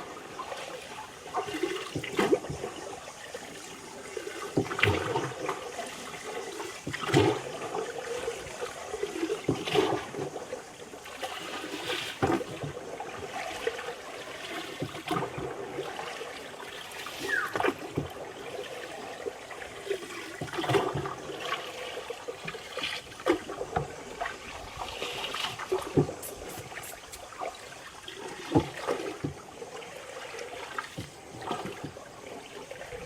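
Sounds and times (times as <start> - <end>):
strong water splash: 0.0 - 10.4, 11.0 - 33.0
water trickling and splashing: 0.0 - 33.0.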